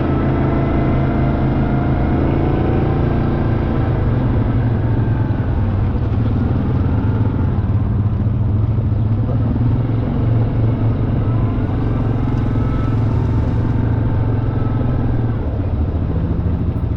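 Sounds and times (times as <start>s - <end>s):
vehicle engine droning: 0.0s - 16.9s.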